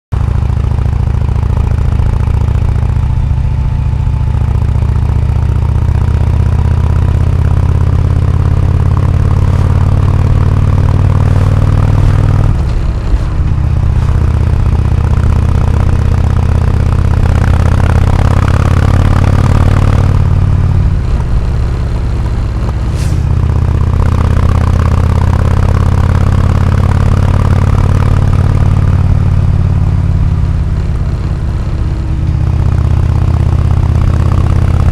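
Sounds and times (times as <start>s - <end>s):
motorcycle exhaust note: 0.2s - 34.9s.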